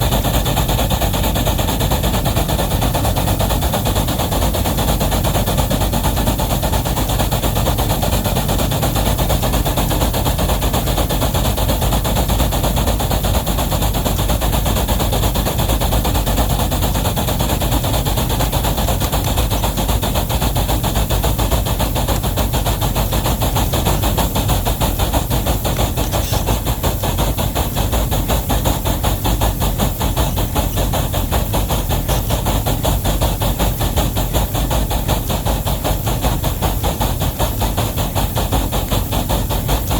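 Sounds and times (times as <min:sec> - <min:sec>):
steam locomotive exhaust chatter: 0:00.0 - 0:39.9.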